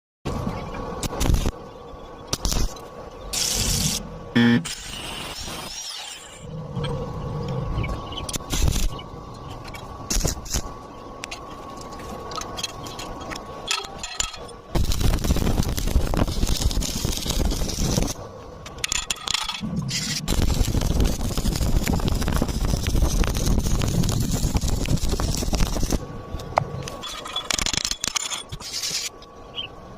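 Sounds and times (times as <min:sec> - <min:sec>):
welding arc crackling: 0:01.0 - 0:01.6, 0:02.3 - 0:06.5, 0:08.2 - 0:29.1.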